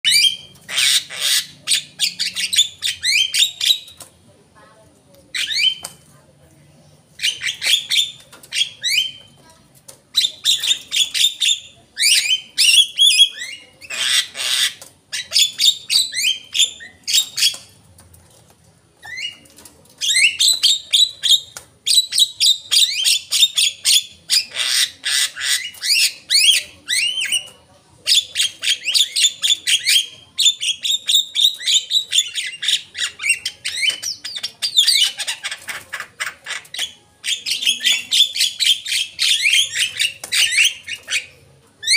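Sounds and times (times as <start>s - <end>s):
bird chattering and whistling: 0.1s - 4.0s, 5.3s - 6.0s, 7.2s - 9.4s, 10.1s - 17.8s, 19.0s - 41.9s.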